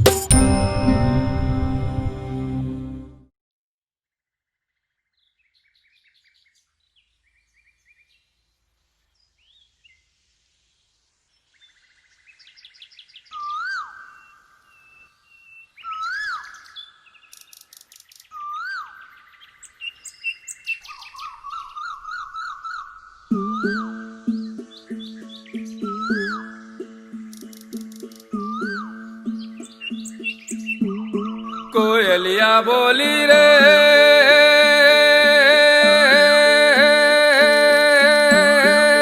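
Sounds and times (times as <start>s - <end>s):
birds chirping and trilling: 4.7s - 10.1s, 11.3s - 39.0s.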